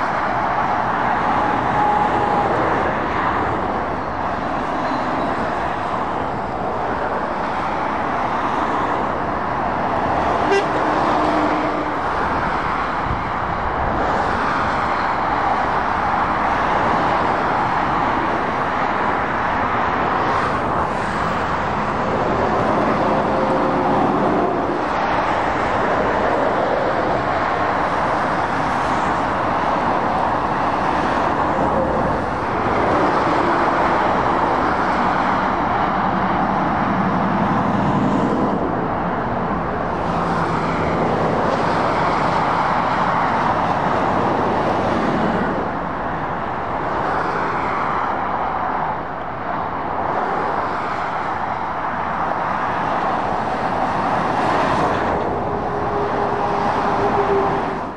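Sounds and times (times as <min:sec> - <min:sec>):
diesel engine drone: 0:00.0 - 0:57.9.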